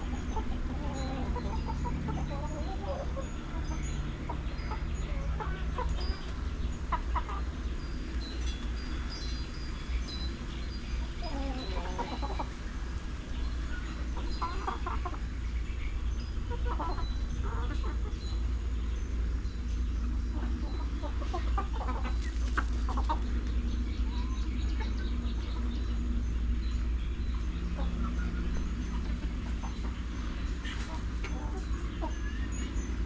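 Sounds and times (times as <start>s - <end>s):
chickens clucking: 0.0s - 33.0s
steady low rumble: 0.0s - 33.0s.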